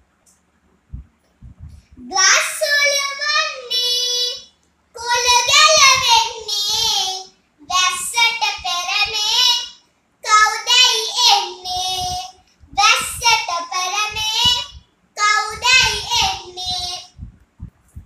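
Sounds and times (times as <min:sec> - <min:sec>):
boy singing unaccompanied: 0:02.0 - 0:17.2.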